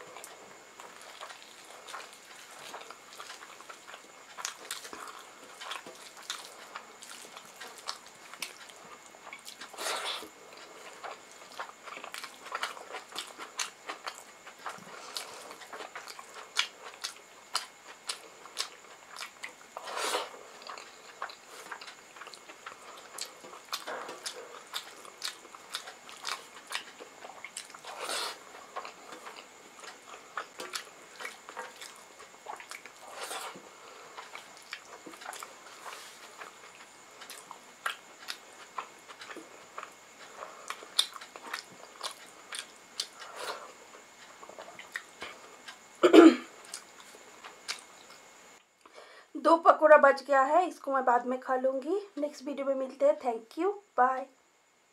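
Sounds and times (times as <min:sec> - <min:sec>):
chewing with mouth clicks: 0:00.1 - 0:48.9.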